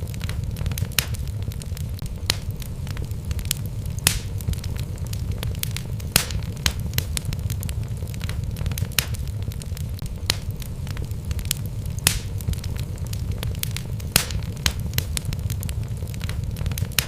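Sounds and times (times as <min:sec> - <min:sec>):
logs crackling and popping: 0:00.0 - 0:17.0
wood fire rumble: 0:00.0 - 0:17.0.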